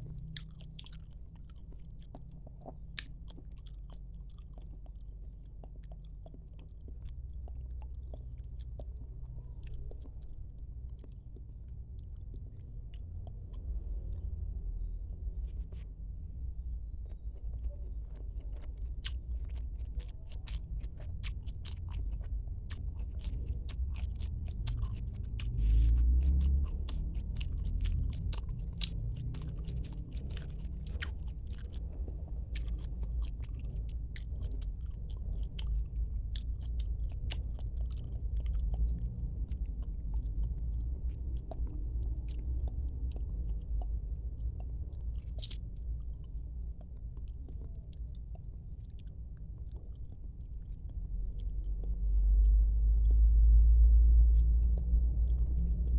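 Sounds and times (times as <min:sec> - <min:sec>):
crunchy chewing clicks: 0:00.0 - 0:55.9
steady low rumble: 0:00.0 - 0:55.9.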